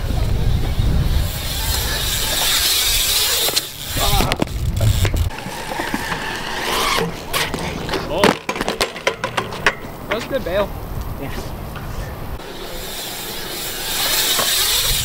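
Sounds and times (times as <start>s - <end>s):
bike tyres rolling on concrete: 0.0s - 15.0s
bikes clacking on concrete: 0.0s - 15.0s.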